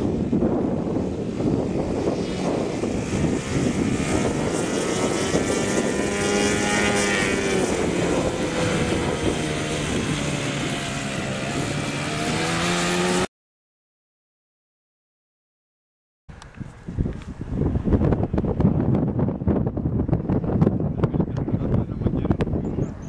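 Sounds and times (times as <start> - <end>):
model airplane engine: 0.0 - 13.3, 16.3 - 23.0
wind noise on microphone: 0.0 - 13.3, 16.3 - 23.0.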